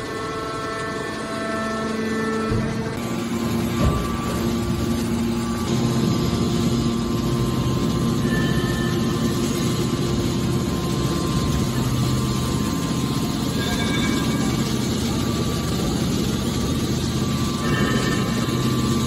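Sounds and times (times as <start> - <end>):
hydraulic power unit humming: 0.0 - 19.0.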